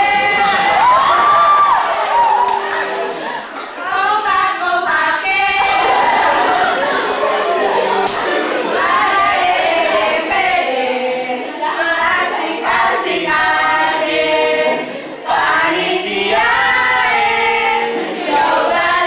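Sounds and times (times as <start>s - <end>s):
group singing in unison: 0.0s - 1.1s, 2.3s - 19.0s.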